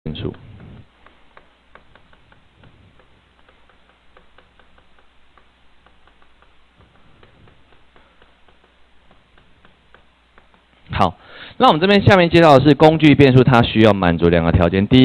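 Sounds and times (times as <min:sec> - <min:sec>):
low steady hum: 0:00.1 - 0:13.9.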